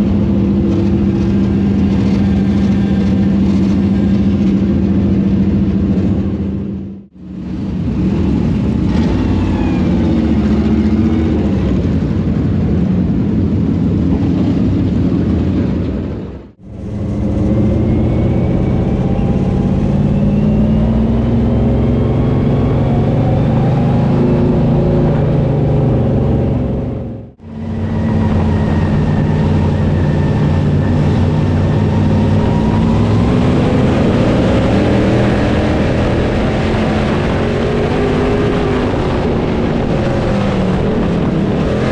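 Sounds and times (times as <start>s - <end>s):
race car engines running hard: 0.0s - 41.9s.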